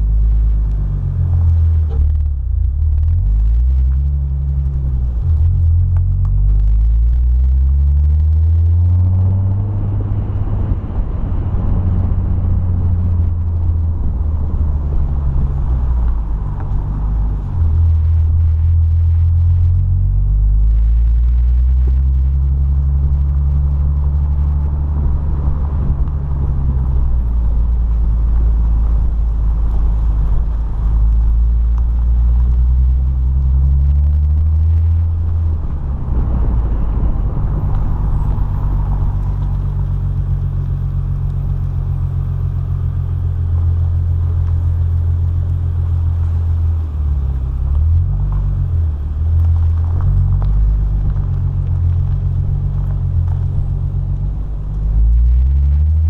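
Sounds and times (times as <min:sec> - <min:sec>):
car engine revving: 0:00.0 - 0:56.0
tyre and wind noise: 0:00.0 - 0:56.0.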